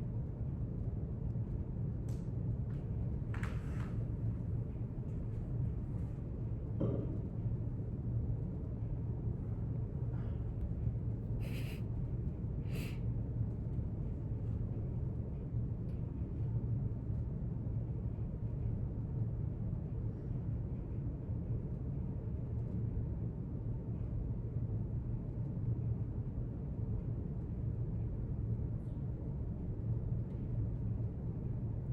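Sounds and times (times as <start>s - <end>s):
low room hum: 0.0s - 31.9s.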